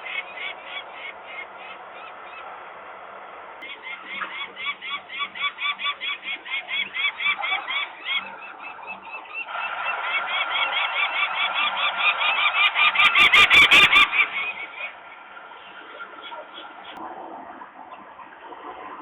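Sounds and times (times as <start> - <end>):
falcons alarm calling: 0.0 - 2.8, 3.6 - 17.0.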